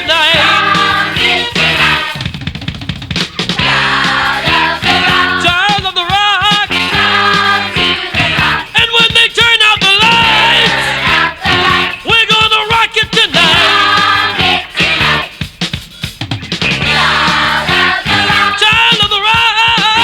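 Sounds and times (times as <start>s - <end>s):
drum fill: 0.0s - 20.0s
rock band playing: 0.0s - 20.0s.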